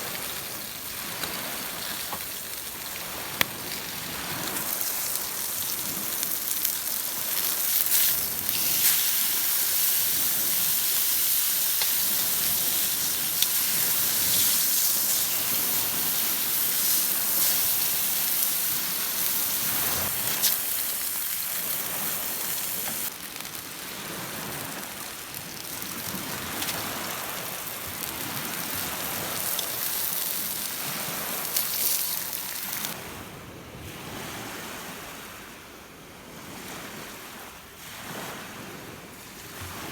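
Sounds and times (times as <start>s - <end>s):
campfire hissing and crackling: 0.0s - 33.0s.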